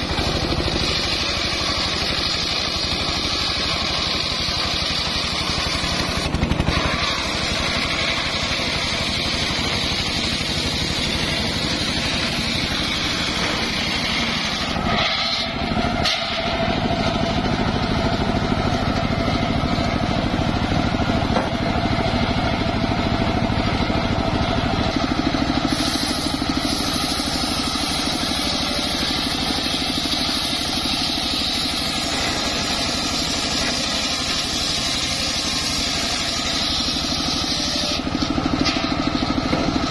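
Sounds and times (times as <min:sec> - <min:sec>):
circular saw cutting logs: 0:00.0 - 0:39.9.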